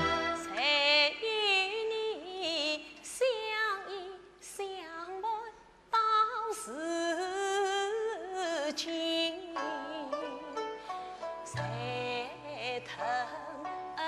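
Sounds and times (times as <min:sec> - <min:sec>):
woman singing opera aria: 0:00.0 - 0:10.6, 0:11.4 - 0:14.0.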